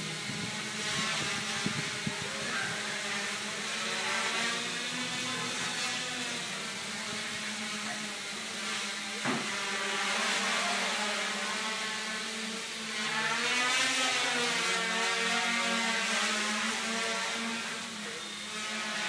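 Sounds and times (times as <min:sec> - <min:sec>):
quadcopter motors buzzing: 0:00.0 - 0:19.0.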